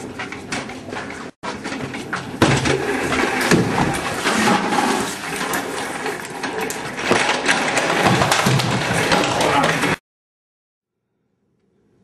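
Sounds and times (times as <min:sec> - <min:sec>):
office chair casters rolling: 0:00.0 - 0:10.0.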